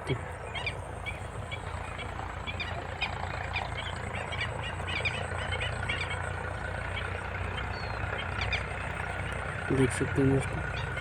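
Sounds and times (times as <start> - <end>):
high chirping animal calls: 0.0 - 8.9, 10.5 - 11.0.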